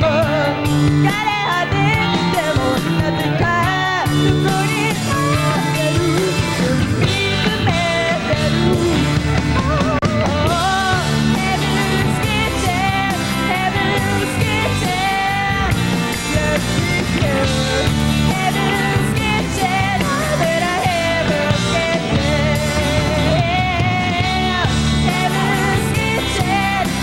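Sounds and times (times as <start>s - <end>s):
rock band playing live: 0.0s - 27.0s
woman singing lead: 0.0s - 27.0s.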